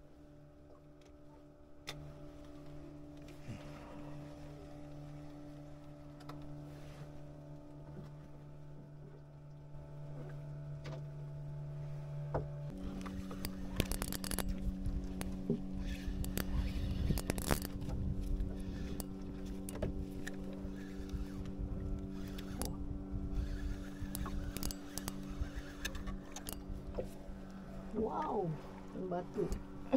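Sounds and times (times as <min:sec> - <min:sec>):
boat engine running: 0:00.0 - 0:29.9.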